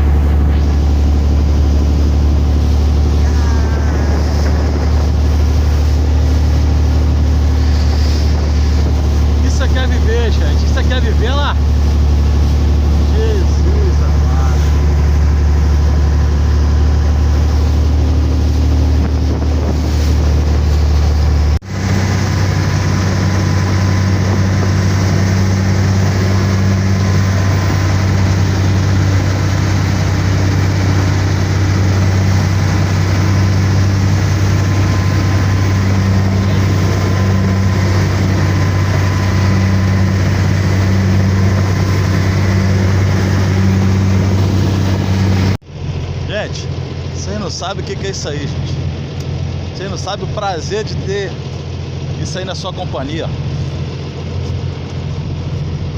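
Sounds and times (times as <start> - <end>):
wind on microphone: 0.0 - 45.6
motorboat engine drone: 0.0 - 55.9
water rushing past: 0.0 - 55.9.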